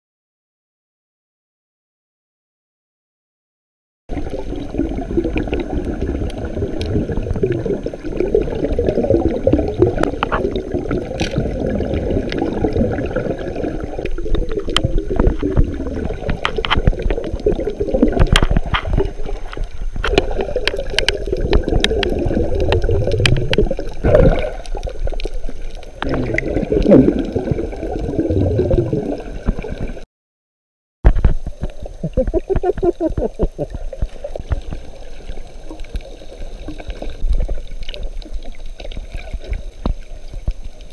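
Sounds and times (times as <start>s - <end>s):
muffled underwater sloshing: 4.1s - 30.0s, 31.2s - 40.9s.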